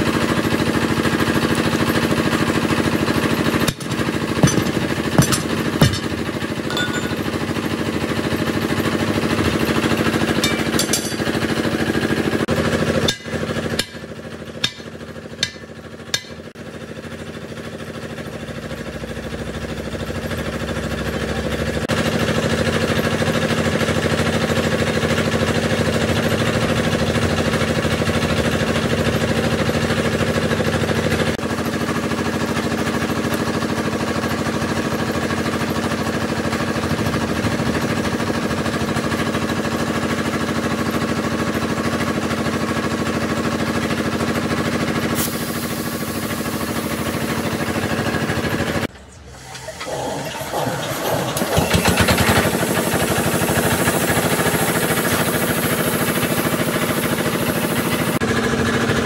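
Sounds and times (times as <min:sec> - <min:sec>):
air compressor engine running: 0:00.0 - 0:59.0.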